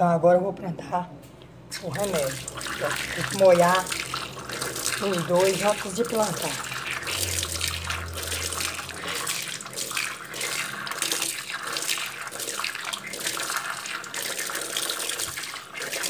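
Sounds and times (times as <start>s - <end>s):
tap water splashing into pot: 1.8s - 16.0s.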